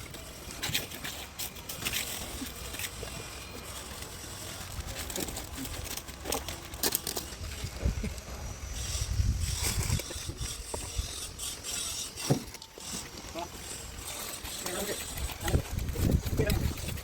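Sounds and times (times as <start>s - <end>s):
knocks and scrapes on concrete: 0.0s - 17.0s.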